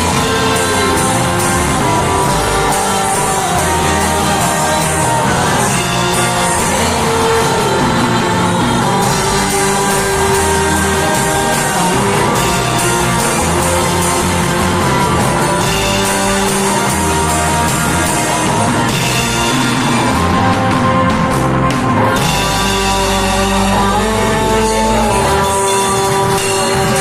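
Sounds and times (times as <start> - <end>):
live band playing music: 0.0 - 27.0.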